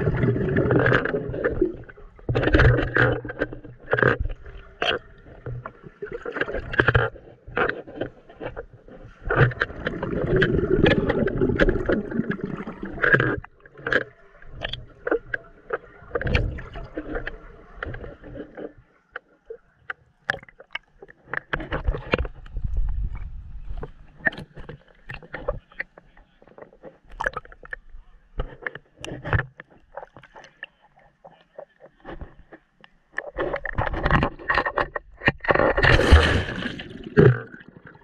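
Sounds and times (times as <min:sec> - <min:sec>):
muffled churning water: 0:00.0 - 0:38.0
water splashing and sloshing: 0:00.0 - 0:38.0.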